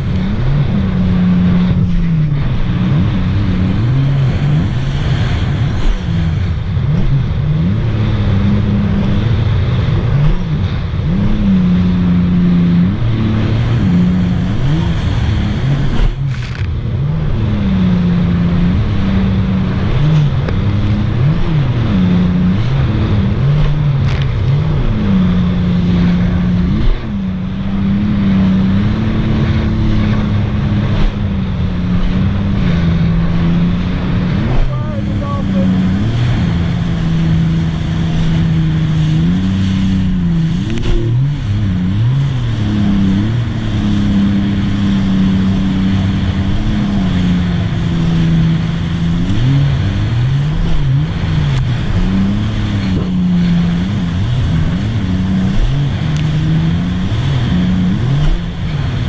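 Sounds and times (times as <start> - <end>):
personal watercraft engine: 0.0 - 59.0.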